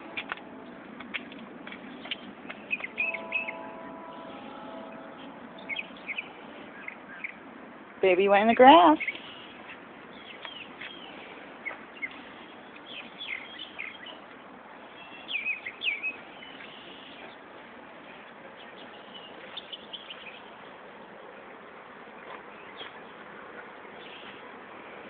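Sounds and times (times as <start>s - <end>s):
birds chirping: 0.0s - 25.0s
faint outdoor hiss: 0.0s - 25.0s.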